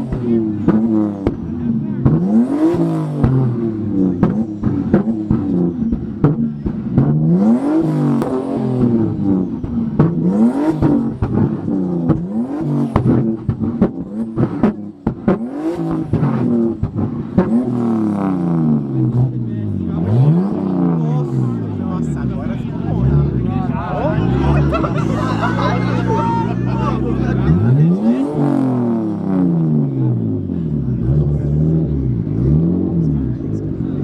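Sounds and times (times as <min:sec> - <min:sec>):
car engine revving: 0:00.0 - 0:34.0
exhaust pops: 0:00.0 - 0:34.0.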